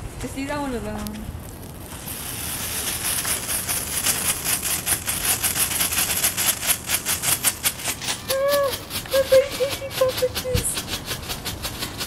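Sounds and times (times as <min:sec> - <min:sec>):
firework crackling pops: 0:00.3 - 0:11.7
firework sparks hissing: 0:00.7 - 0:12.0.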